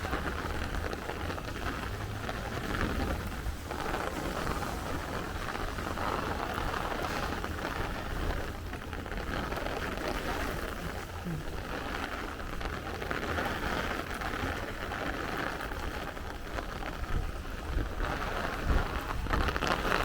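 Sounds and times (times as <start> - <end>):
gusty wind rumble: 0.0 - 20.0
heavy rain falling: 0.0 - 20.0.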